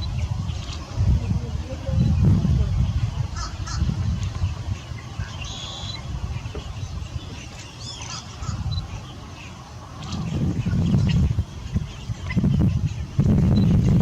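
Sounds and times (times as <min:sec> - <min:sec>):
birds calling: 0:00.0 - 0:14.0
wind rumble on microphone: 0:00.0 - 0:14.0.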